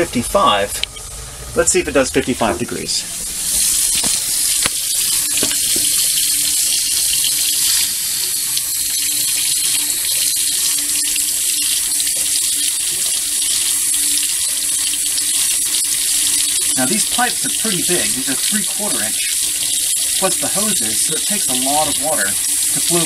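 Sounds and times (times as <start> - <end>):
faucet running into metal sink: 2.4 - 23.0.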